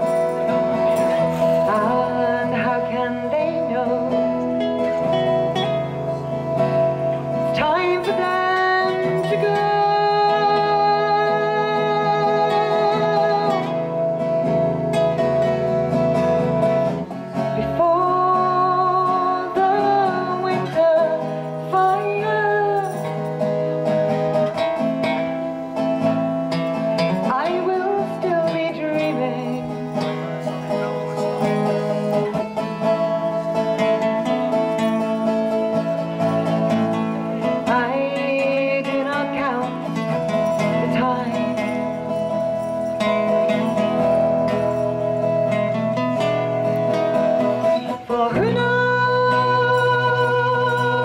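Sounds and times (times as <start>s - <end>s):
strummed acoustic guitar: 0.0s - 51.0s.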